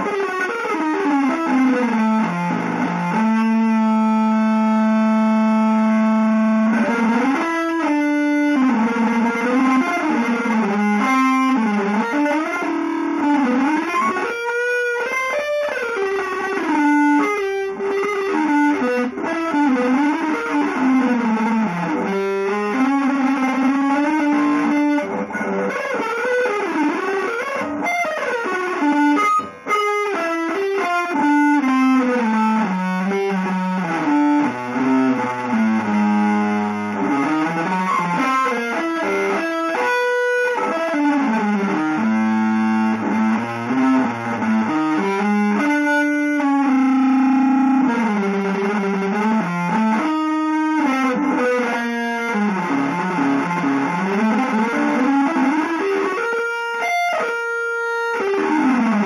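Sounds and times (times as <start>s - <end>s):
distorted electric guitar: 0.0s - 59.0s.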